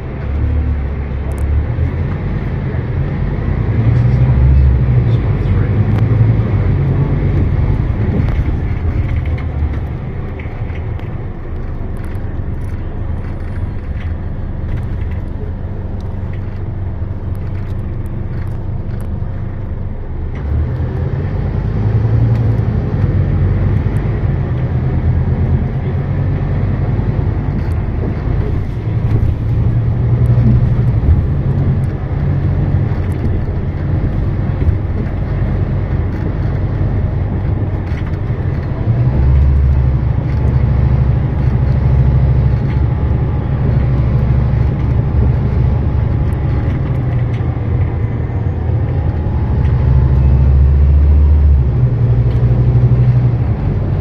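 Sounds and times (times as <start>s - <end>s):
bus diesel engine droning: 0.0s - 54.0s
road noise: 0.0s - 54.0s.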